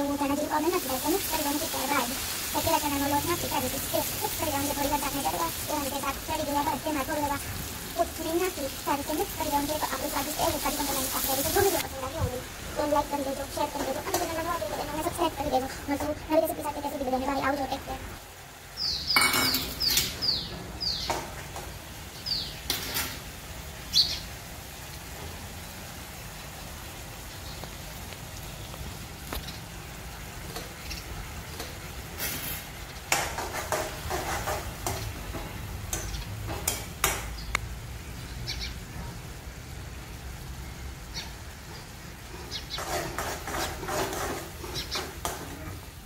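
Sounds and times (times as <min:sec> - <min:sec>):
food sizzling in a pan: 0:00.0 - 0:36.5, 0:39.3 - 0:46.0.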